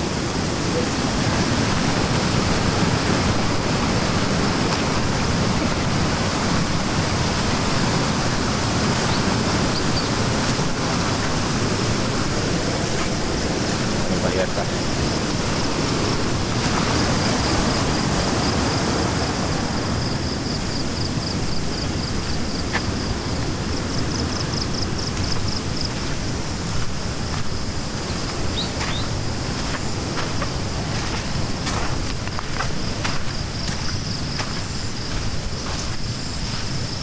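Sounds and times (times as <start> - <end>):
fast-flowing river rushing: 0.0 - 37.0.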